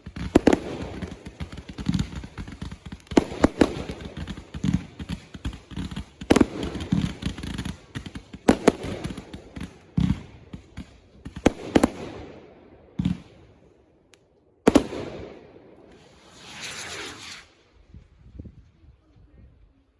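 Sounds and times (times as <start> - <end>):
fireworks crackling: 0.0 - 12.4, 14.2 - 19.0
fireworks bangs: 0.0 - 13.5, 14.6 - 18.1.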